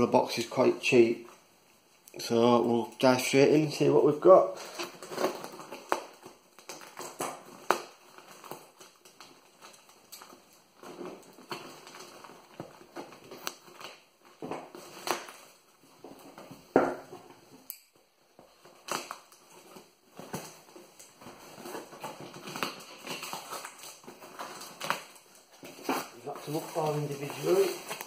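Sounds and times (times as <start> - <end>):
cardboard crinkling and scraping: 4.2 - 17.6, 18.4 - 28.0.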